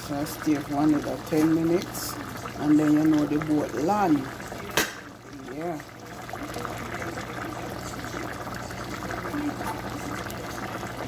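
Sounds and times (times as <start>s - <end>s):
stew bubbles popping: 0.0s - 11.0s.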